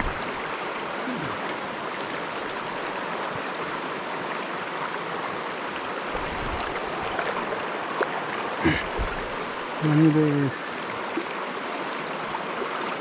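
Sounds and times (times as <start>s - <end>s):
stream rushing over riffle: 0.0s - 13.0s.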